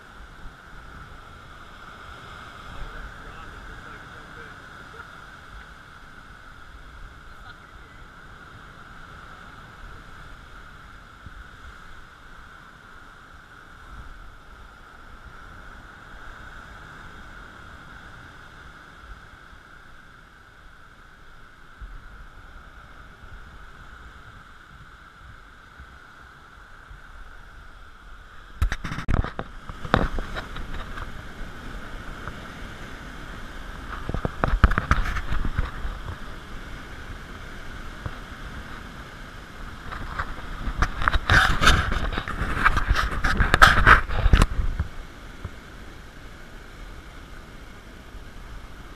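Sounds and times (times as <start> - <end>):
ocean surf churning through rocks: 0.0 - 48.9
waves breaking: 0.0 - 48.9.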